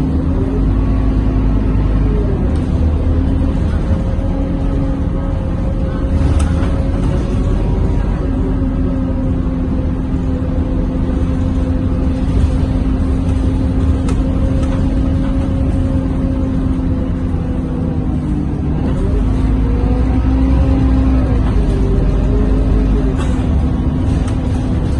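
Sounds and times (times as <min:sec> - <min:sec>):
bus diesel engine humming: 0:00.0 - 0:24.9
road rumble: 0:00.0 - 0:24.9.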